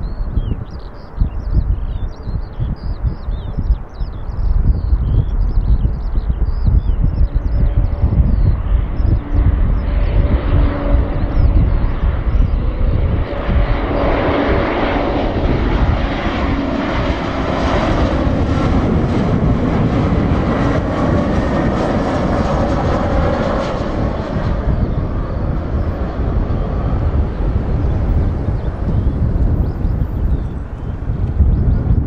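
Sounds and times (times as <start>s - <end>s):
faint jet engine whine: 0.0s - 32.0s
jet airliner rumble: 0.0s - 32.0s.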